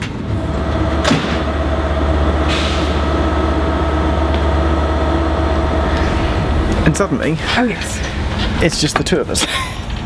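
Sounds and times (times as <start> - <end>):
diesel train engine idling: 0.0 - 10.0.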